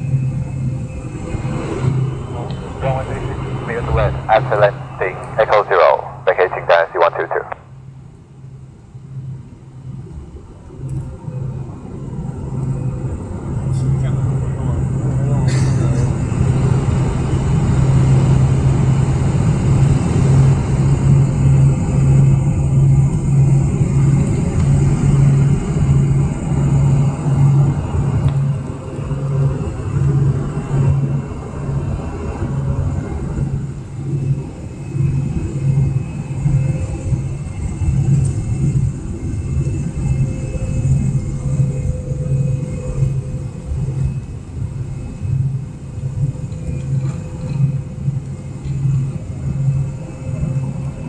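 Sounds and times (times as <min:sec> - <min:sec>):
airliner cabin engine rumble: 0:00.0 - 0:51.0.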